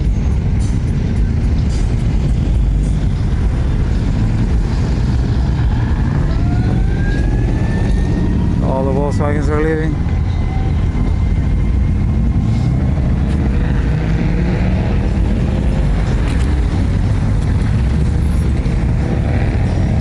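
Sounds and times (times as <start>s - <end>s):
car engines driving off: 0.0s - 20.0s.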